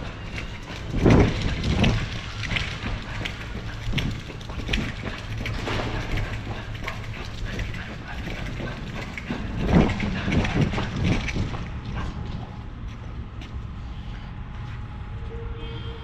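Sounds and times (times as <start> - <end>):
footsteps: 0.0 - 15.4.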